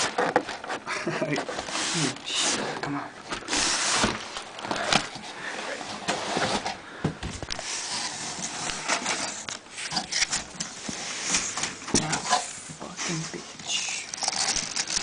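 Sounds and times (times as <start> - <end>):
packaging rustling and scraping: 0.0 - 6.8, 7.4 - 15.0.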